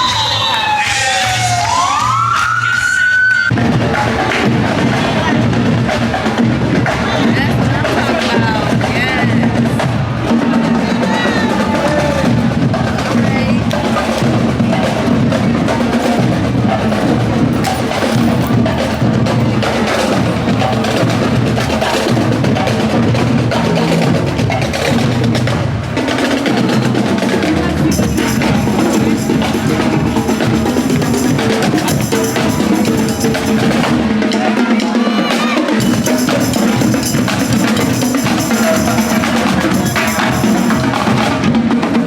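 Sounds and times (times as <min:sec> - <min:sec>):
music with busy percussion beat: 0:03.5 - 0:42.0.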